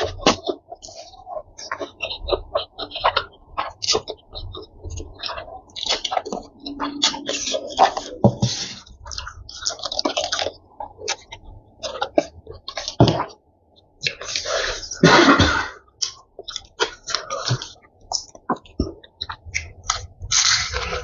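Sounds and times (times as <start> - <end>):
wet chewing and lip smacks: 0.0 - 8.2, 8.8 - 13.0, 16.0 - 21.0.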